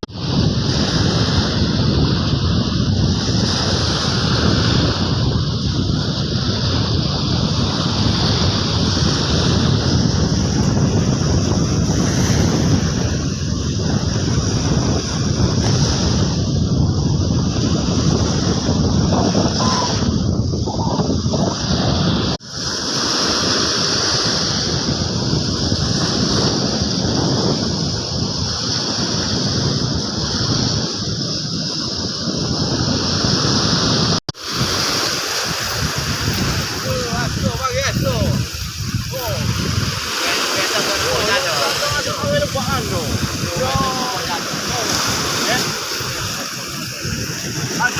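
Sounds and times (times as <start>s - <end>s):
sea surf breaking: 0.0s - 47.9s
wind buffeting microphone: 0.0s - 47.9s.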